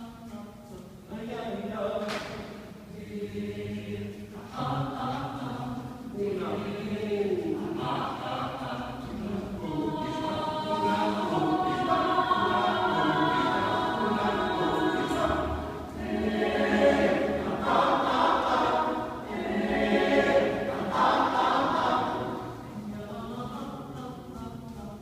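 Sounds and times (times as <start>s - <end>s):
choir singing a cappella: 0.0s - 25.0s.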